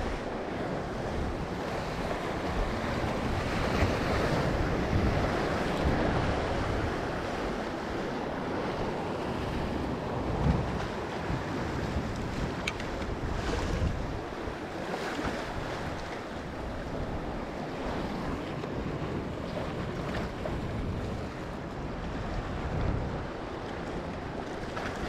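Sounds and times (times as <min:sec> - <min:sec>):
surf washing against rocks: 0:00.0 - 0:25.0
wind buffeting microphone: 0:00.0 - 0:25.0.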